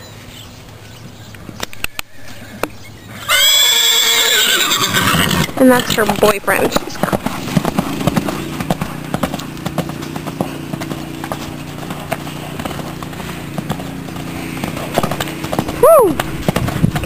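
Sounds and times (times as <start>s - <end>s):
horse hooves on sandy dirt: 0.6s - 17.0s.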